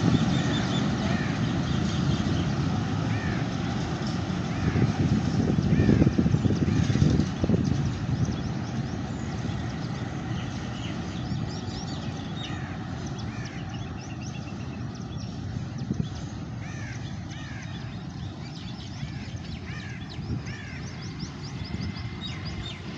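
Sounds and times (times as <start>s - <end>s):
birds chirping: 0.0s - 22.9s
diesel freight train rumble: 0.0s - 22.9s.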